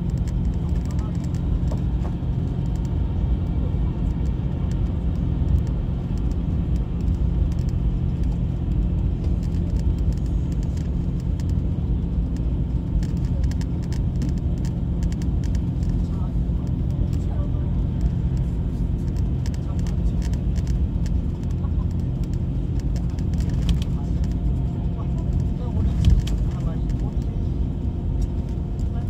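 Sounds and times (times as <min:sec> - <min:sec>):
coach engine drone and road rumble: 0:00.0 - 0:29.0
light clicks and rattles: 0:00.0 - 0:29.0.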